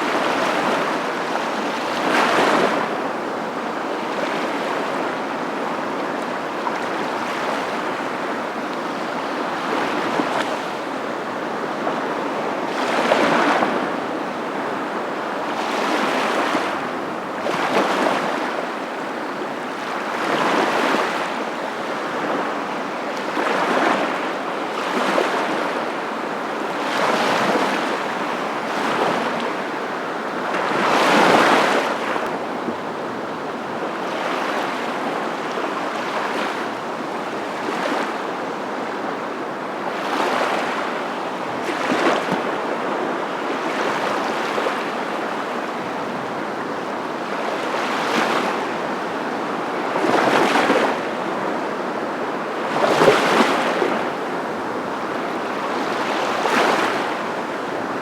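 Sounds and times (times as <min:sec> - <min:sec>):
waves washing on shore: 0:00.0 - 0:58.0.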